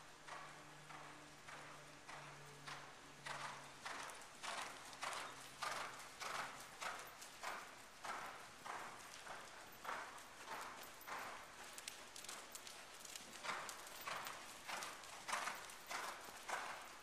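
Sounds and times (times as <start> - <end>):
horse hoofbeats on sand: 0.3 - 17.0.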